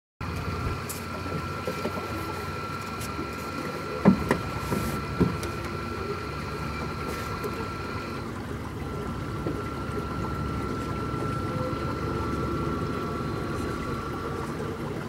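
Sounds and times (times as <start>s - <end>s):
mechanical hum with high whine: 0.2s - 15.0s.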